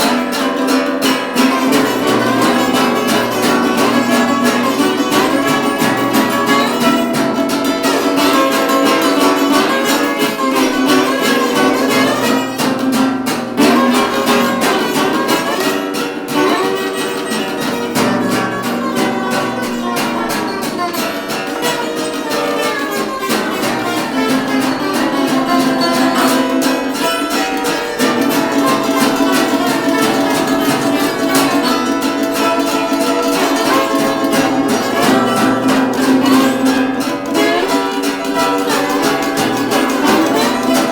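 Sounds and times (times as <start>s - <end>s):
strummed acoustic guitar: 0.0s - 40.9s
ukulele strumming: 0.0s - 40.9s
lead melody line: 1.3s - 40.9s.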